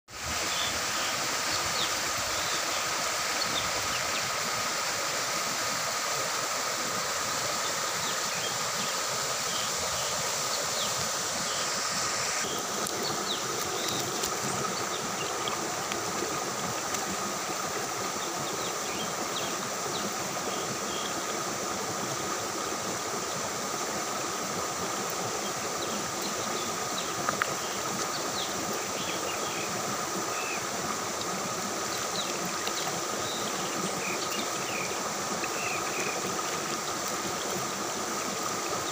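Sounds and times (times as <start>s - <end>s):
stream running over rocks: 0.1s - 38.9s
insects droning: 0.3s - 38.9s.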